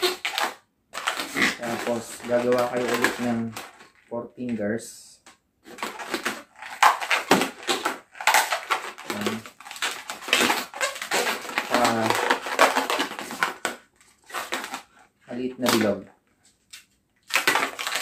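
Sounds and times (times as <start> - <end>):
balloon squeaking and rubbing: 0.0 - 4.1, 5.6 - 16.0, 17.3 - 18.0.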